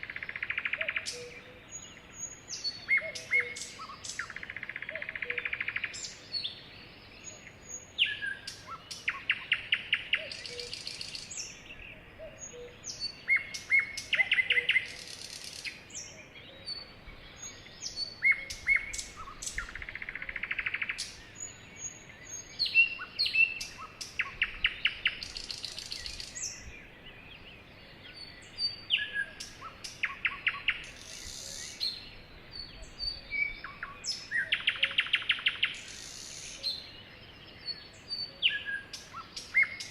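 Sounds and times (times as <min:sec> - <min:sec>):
sparrow singing: 0:00.0 - 0:39.9.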